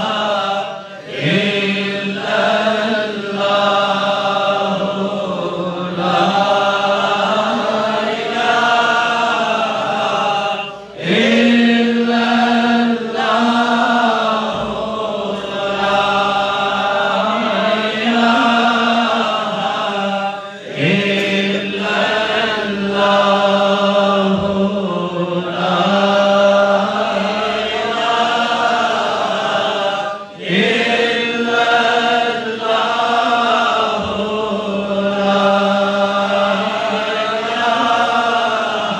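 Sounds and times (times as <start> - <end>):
men chanting devotional verses: 0.0 - 38.9.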